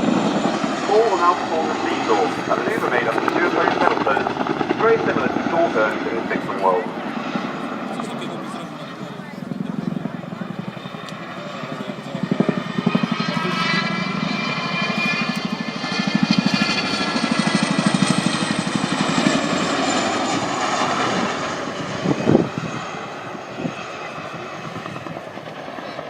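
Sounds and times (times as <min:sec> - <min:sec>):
helicopter rotor blades chopping: 0:00.0 - 0:26.0
high turbine whine: 0:00.0 - 0:26.0.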